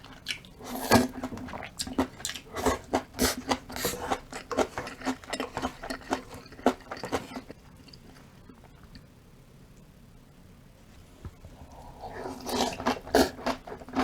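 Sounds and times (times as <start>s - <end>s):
person chewing food: 0.0s - 9.1s, 11.5s - 14.0s.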